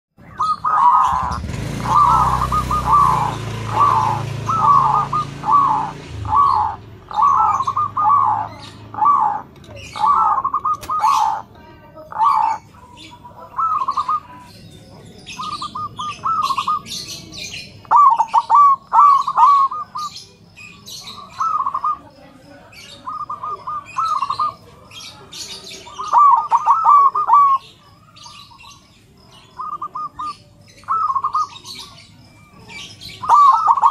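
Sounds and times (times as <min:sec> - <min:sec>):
dove cooing: 0:00.2 - 0:33.9
small birds chirping: 0:00.2 - 0:33.9.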